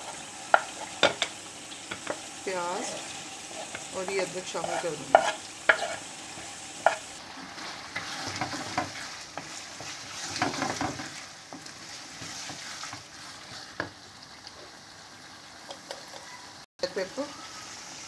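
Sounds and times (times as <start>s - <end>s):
meat sizzling in frying pan: 0.0s - 18.0s.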